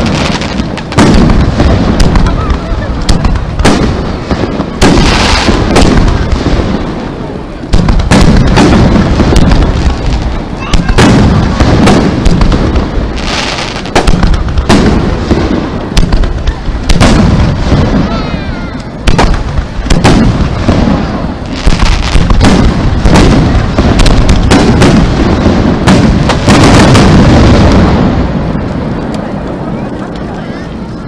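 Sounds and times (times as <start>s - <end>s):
fireworks booming and banging: 0.0s - 31.0s
fireworks crackle: 0.0s - 31.0s.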